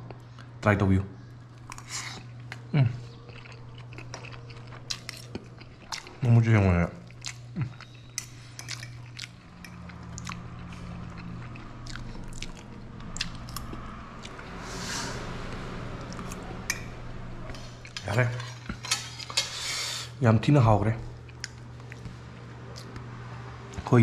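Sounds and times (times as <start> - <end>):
steady low hum: 0.0 - 24.0
chewing: 1.4 - 6.4, 7.0 - 19.6, 21.1 - 23.1.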